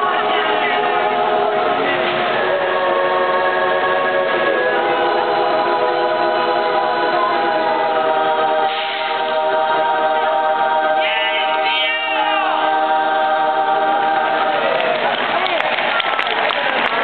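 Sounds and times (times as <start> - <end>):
crowd singing a cappella: 0.0 - 15.3.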